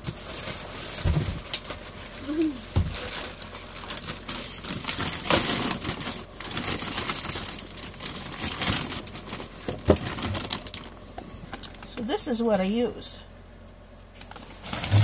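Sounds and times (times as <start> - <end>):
plastic bag crinkling and rustling: 0.0 - 12.4, 14.2 - 15.0.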